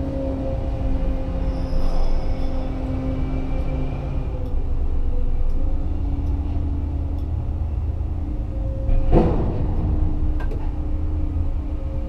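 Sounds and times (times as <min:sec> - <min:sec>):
crane machinery humming: 0:00.0 - 0:12.0.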